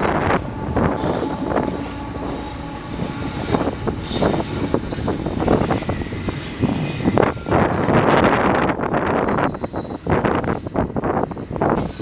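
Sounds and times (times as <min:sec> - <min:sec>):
clanks and rattles of rail cars: 0:00.0 - 0:12.0
train wheels rumbling on rail: 0:00.0 - 0:12.0.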